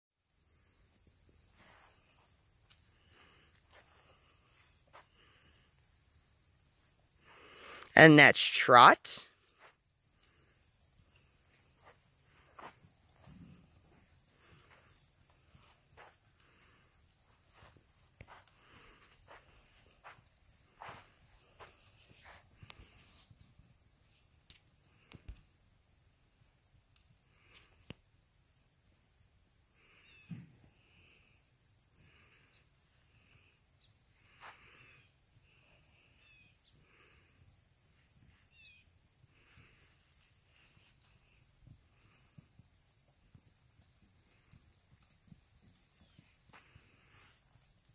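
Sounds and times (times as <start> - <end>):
insects chirring in grass: 0.3 - 7.9, 9.3 - 47.9.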